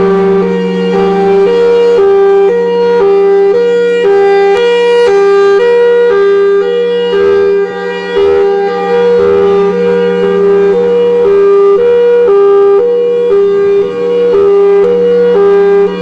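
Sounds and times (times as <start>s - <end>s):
two-tone warning siren: 0.0s - 16.0s.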